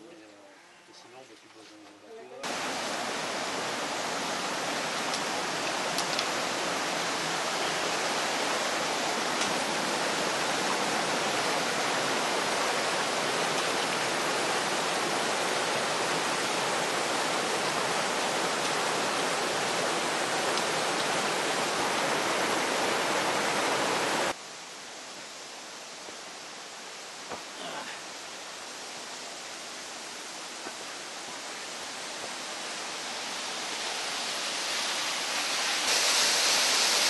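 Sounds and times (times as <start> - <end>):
steady outdoor hiss: 0.0 - 37.0
river rushing over boulders: 2.4 - 37.0.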